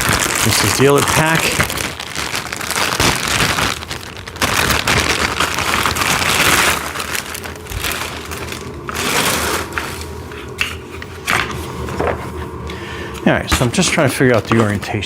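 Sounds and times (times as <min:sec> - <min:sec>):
plastic packaging crinkling: 0:00.0 - 0:12.4, 0:13.2 - 0:15.0.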